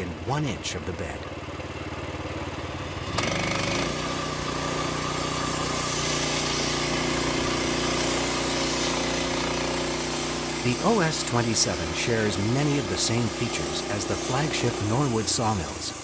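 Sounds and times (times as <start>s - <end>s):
small gasoline engine revving: 1.8s - 16.0s.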